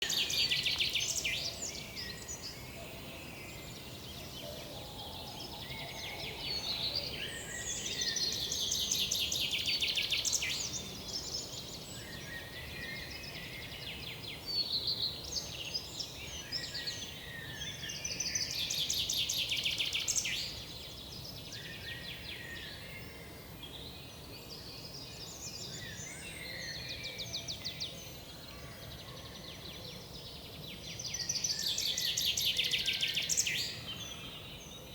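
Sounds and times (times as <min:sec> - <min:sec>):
songbirds singing and calling: 0:00.0 - 0:34.9.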